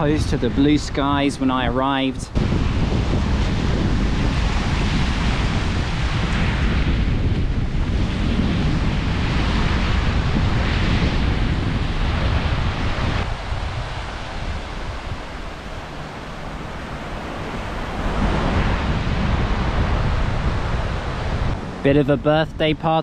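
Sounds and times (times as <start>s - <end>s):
wind buffeting microphone: 0.0s - 23.0s
surf breaking on beach: 2.3s - 23.0s.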